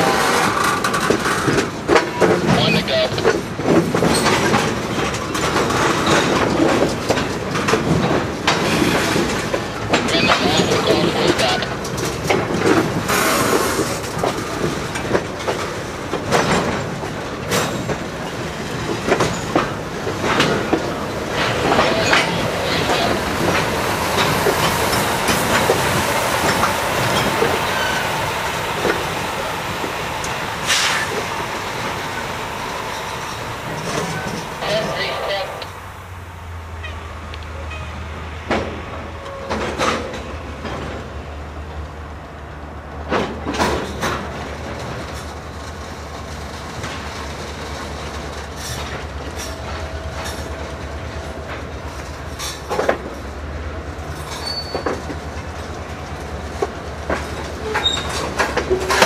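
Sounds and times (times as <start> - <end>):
wheels clacking over rail joints: 0.0 - 35.8, 36.8 - 59.0
train wheels rumbling on rails: 0.0 - 59.0.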